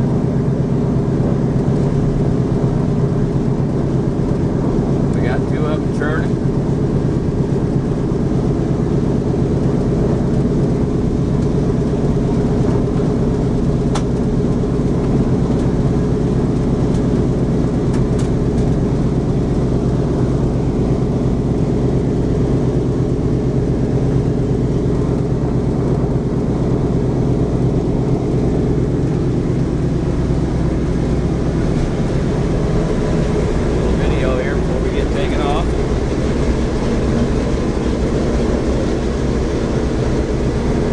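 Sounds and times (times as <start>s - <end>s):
radial aircraft engines rumbling: 0.0s - 40.9s.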